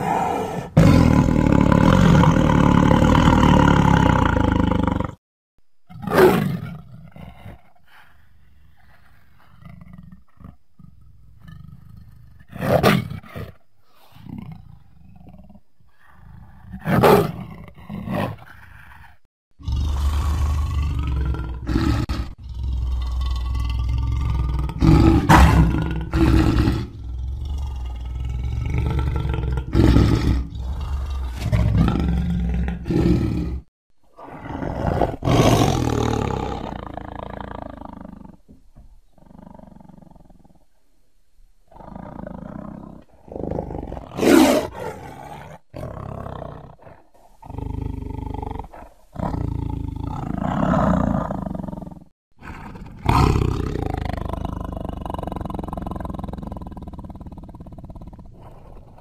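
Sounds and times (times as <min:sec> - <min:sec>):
big cat roars and snarls: 0:00.0 - 0:05.2, 0:05.9 - 0:40.7, 0:41.7 - 0:59.0.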